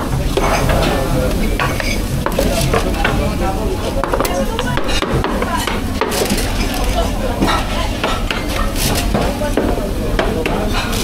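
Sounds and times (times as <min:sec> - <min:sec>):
food sizzling: 0:00.0 - 0:11.0
utensils clinking on metal pans: 0:00.0 - 0:11.0.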